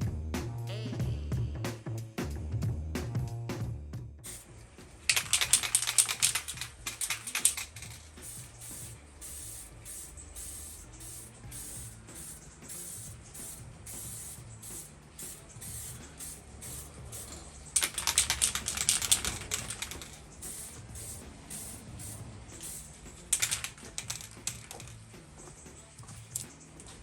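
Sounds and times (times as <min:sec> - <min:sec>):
spray can ball rattling: 0:04.2 - 0:27.0.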